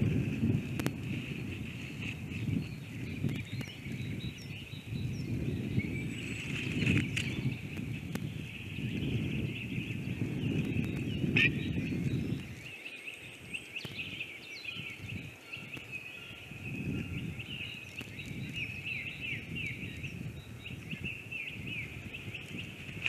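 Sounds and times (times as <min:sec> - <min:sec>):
birds chirping and singing: 0:00.0 - 0:23.0.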